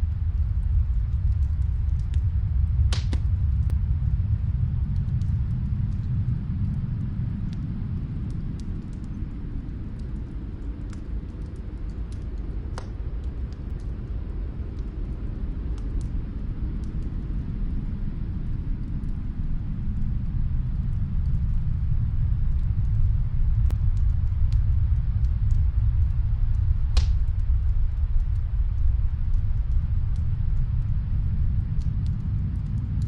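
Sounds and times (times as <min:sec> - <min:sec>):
low rumbling wind: 0:00.0 - 0:33.0
wood fire crackles: 0:00.0 - 0:33.0.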